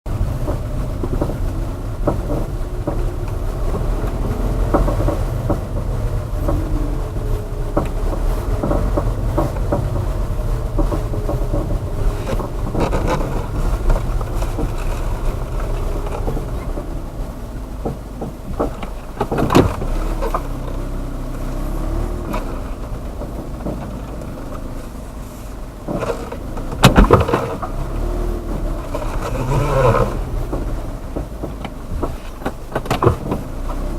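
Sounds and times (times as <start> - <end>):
saddle creaking and squeaking: 0.1 - 25.1, 25.8 - 33.9
steady low rumble: 0.1 - 33.8.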